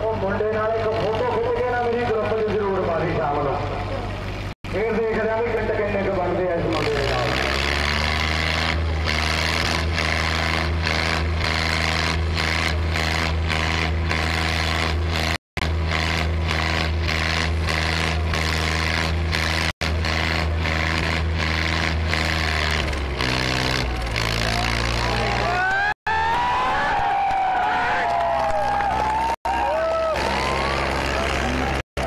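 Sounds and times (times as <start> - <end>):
tractor engines running hard: 0.0 - 26.0, 28.4 - 32.0.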